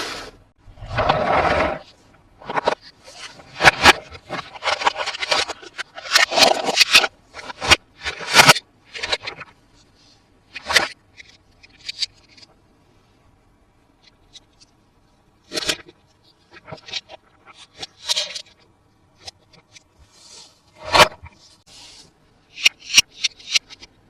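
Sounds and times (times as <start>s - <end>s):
plastic toy parts rustling and clicking: 0.8s - 12.6s, 14.0s - 24.0s.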